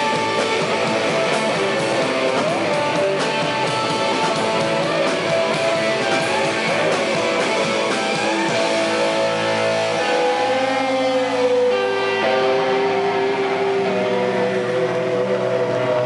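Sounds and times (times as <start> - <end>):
drums: 0.0 - 16.0
rock band playing: 0.0 - 16.0
strummed electric guitar: 0.0 - 16.0.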